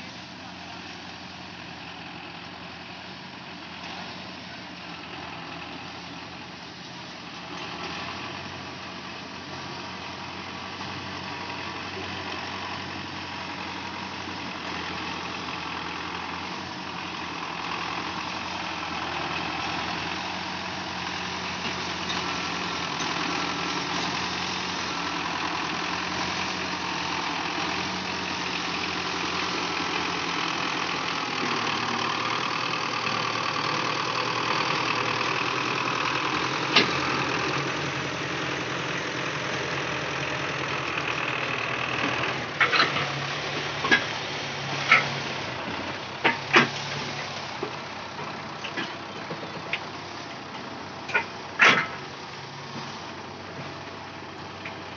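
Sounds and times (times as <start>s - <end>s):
diesel tractor engine: 0.0s - 54.9s.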